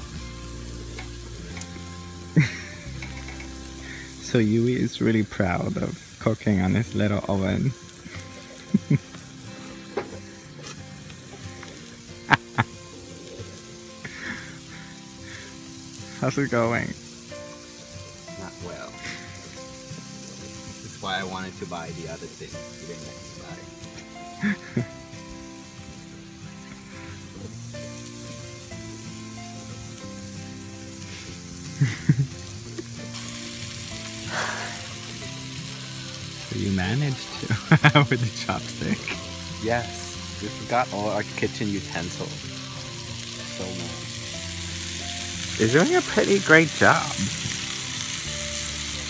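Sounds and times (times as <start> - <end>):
background music of held notes: 0.0 - 49.0
burger patties sizzling in skillet: 0.0 - 49.0.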